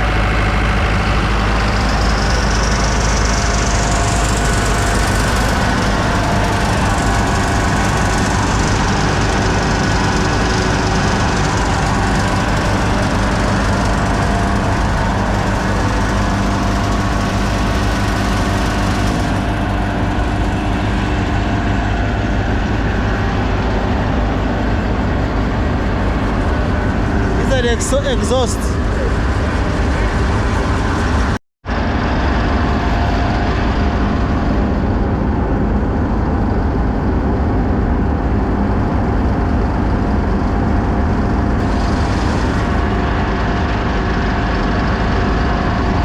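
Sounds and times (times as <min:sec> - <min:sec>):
grain dryer machinery humming: 0:00.0 - 0:46.0.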